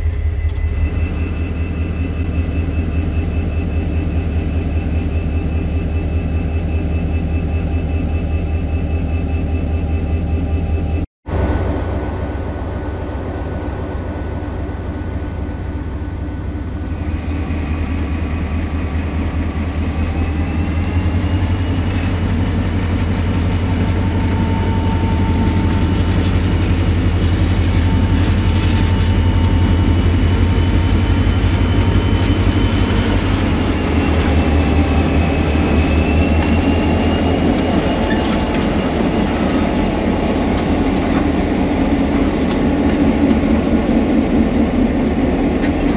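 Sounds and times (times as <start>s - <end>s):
locomotive diesel engine running: 0.0s - 45.9s.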